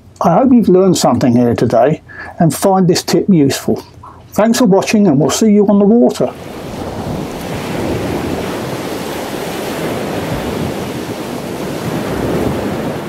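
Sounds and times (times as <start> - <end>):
ocean waves breaking: 1.7 - 13.0.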